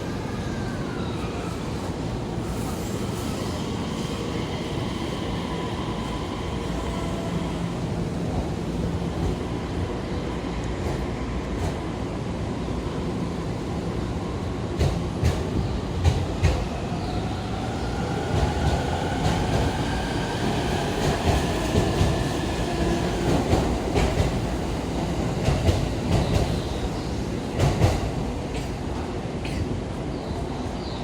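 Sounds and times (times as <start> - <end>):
train wheels rumbling and clicking: 1.8 - 30.9.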